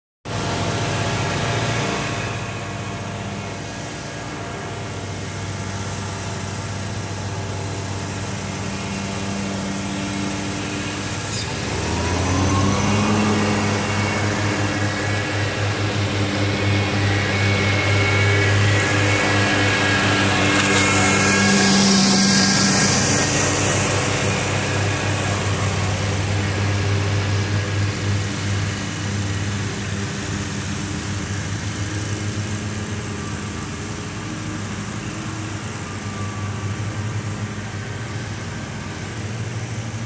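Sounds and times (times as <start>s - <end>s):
mower engine running: 0.3s - 40.0s
rising whine: 0.3s - 40.0s.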